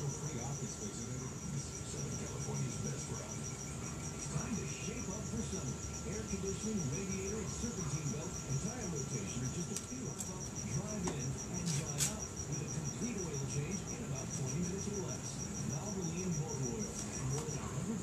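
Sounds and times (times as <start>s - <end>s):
cricket chirping: 0.0s - 18.0s
low wavering background murmur: 0.0s - 18.0s.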